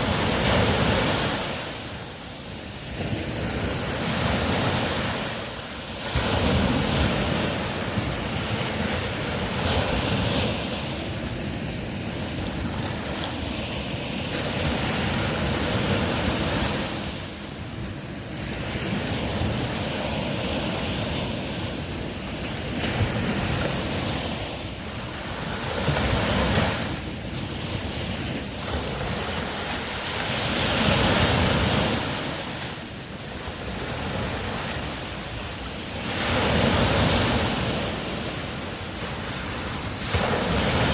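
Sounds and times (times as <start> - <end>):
ocean waves washing onto shore: 0.0 - 40.9.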